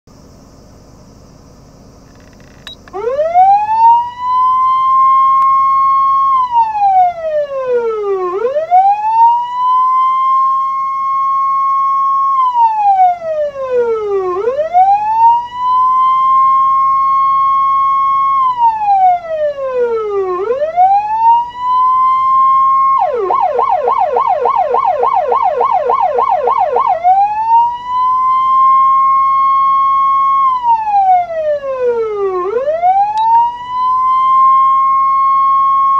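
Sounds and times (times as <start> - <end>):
electronic siren wailing: 2.6 - 35.9
fast siren warble: 3.0 - 35.9.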